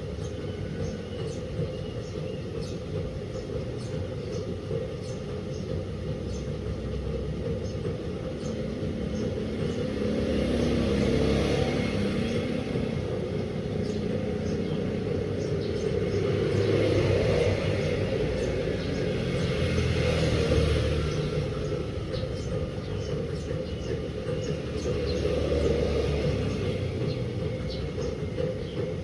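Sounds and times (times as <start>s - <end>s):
washing machine drum rumbling: 0.0s - 29.0s.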